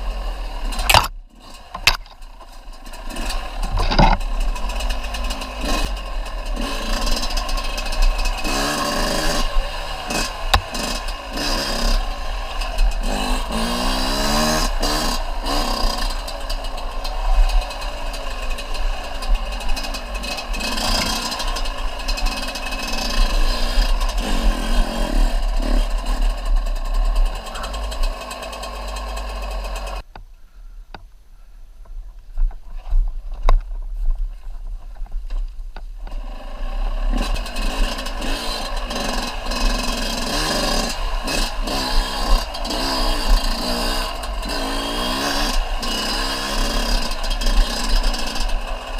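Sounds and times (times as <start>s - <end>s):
dirt bike engine revving: 0.0s - 30.1s, 36.0s - 48.9s.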